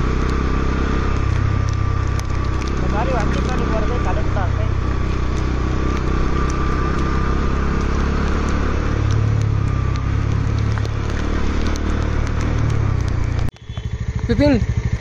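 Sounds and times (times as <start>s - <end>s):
motorcycle engine humming: 0.0s - 15.0s.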